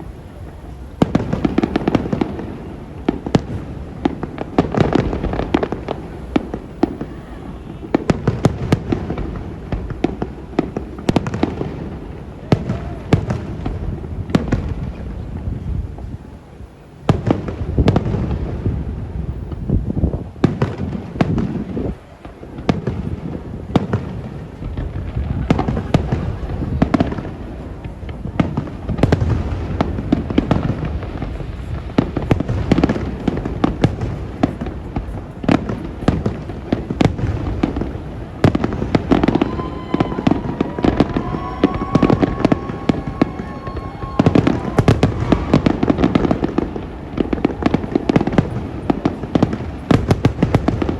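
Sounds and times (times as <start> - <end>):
deep fireworks booms: 0.0 - 50.9
fireworks bangs and crackling: 0.0 - 50.9.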